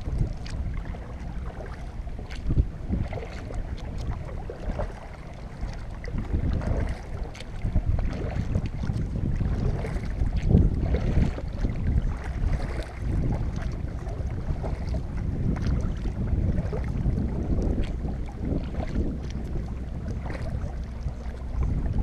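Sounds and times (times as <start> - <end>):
paddle strokes splashing: 0.0 - 22.0
water sloshing along hull: 0.0 - 22.0
wind rumble on microphone: 0.0 - 22.0.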